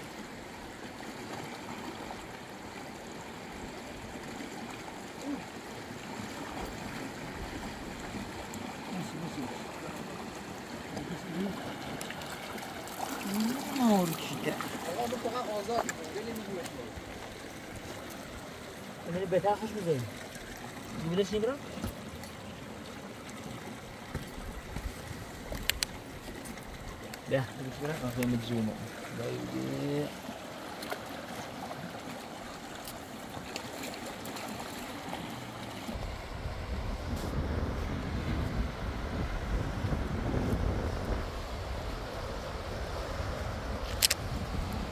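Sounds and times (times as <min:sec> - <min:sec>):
fast-flowing river rushing: 0:00.0 - 0:36.4.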